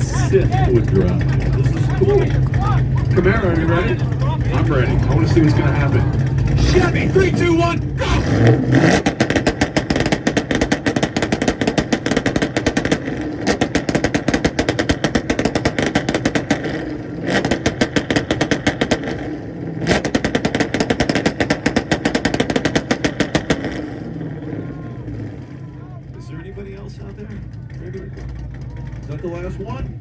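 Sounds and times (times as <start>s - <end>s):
car exhaust banging on launch limiter: 0.0s - 30.0s.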